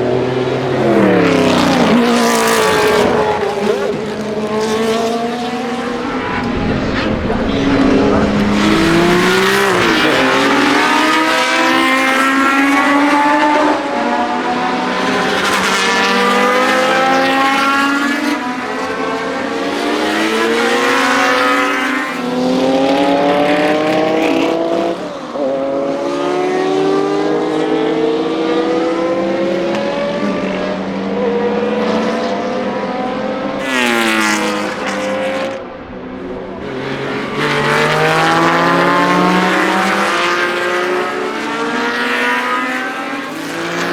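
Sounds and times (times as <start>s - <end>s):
racing cars passing at full throttle: 0.0s - 43.9s.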